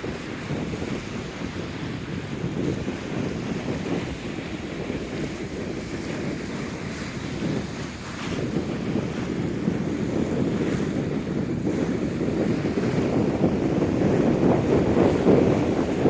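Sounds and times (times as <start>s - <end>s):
waves on a lake: 0.0s - 16.0s
wind buffeting microphone: 0.0s - 16.0s.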